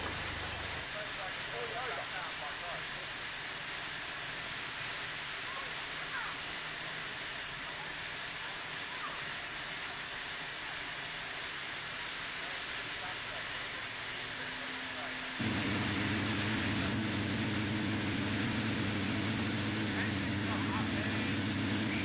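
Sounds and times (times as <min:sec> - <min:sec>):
steam hissing from locomotive: 0:00.0 - 0:22.0.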